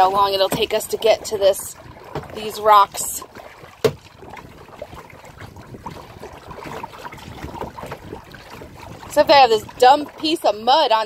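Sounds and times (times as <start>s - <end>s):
water splashing against kayak: 0.0s - 11.0s.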